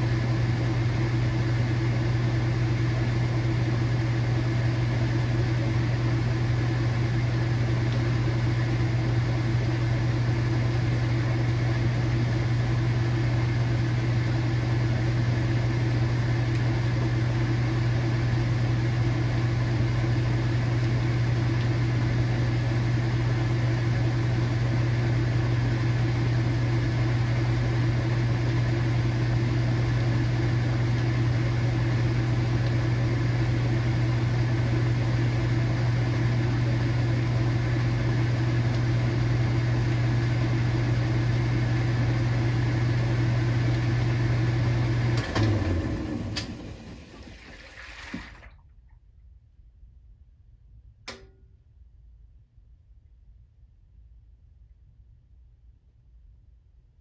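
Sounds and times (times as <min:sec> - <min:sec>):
washing machine motor hum: 0:00.0 - 0:49.0.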